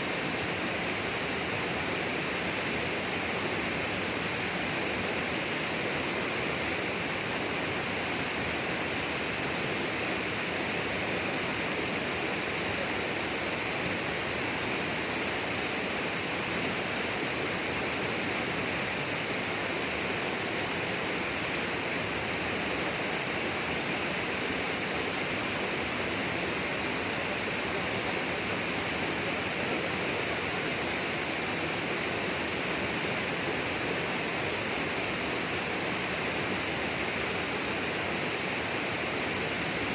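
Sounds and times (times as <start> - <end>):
rushing flowing water: 0.0 - 39.9.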